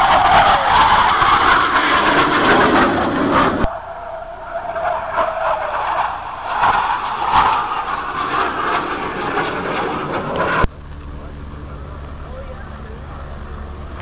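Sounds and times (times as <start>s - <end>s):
jet flying overhead: 0.0s - 14.0s.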